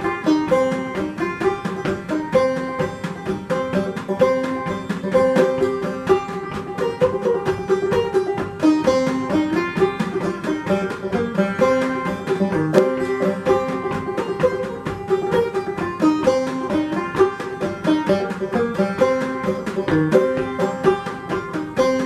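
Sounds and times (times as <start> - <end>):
banjo played clawhammer style: 0.0 - 22.0.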